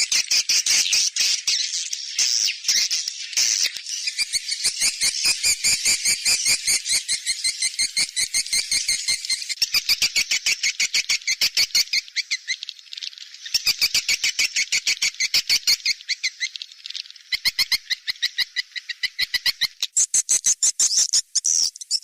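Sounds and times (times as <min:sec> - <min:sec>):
high bird chirps twittering: 0:00.0 - 0:22.0.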